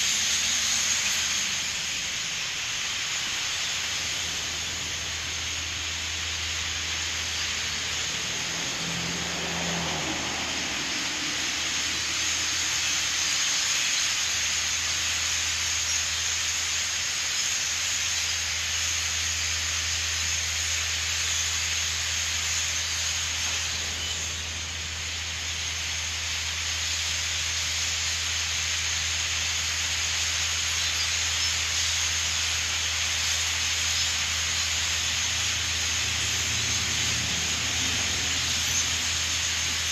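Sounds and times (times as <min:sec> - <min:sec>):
flock of starlings calling: 0:00.0 - 0:39.9.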